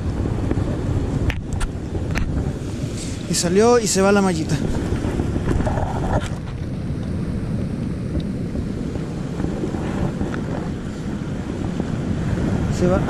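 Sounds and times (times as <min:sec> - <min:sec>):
sea surf: 0:00.0 - 0:13.0
wind rumbling on microphone: 0:00.0 - 0:13.0.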